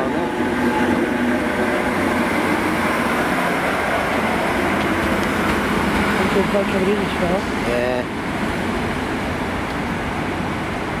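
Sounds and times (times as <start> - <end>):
passenger train passing: 0.0 - 11.0.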